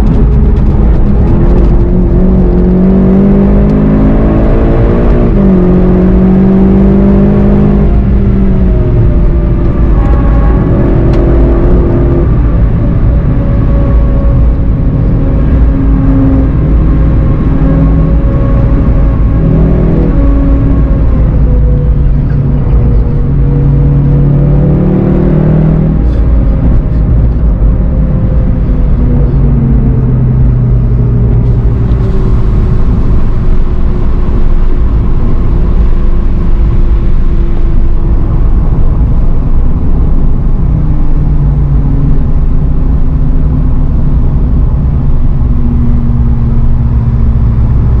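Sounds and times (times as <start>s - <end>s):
car engine from inside cabin: 0.0s - 48.0s
road and tyre rumble: 0.0s - 48.0s.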